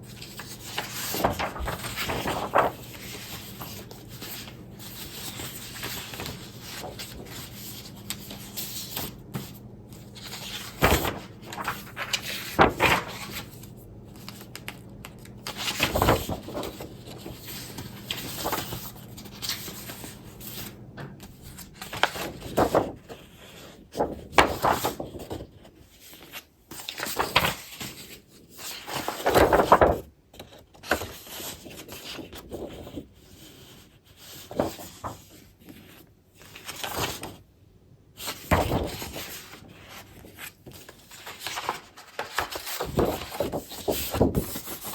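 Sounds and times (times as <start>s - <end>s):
paper sheets rustling: 0.0s - 37.4s, 38.2s - 44.9s.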